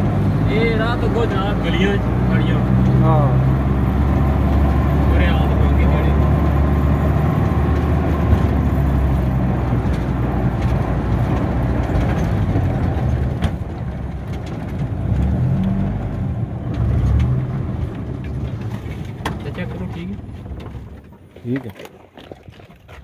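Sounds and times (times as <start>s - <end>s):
vehicle engine revving: 0.0s - 21.1s.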